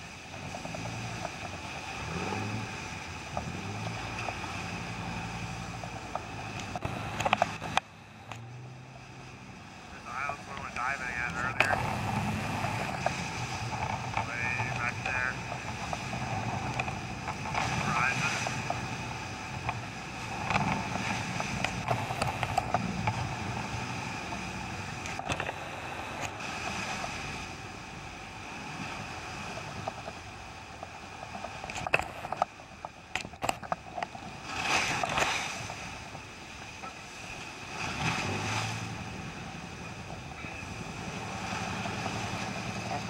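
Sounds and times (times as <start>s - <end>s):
boat motor running: 0.0s - 43.0s
water splashing: 0.0s - 43.0s
wind: 0.0s - 43.0s.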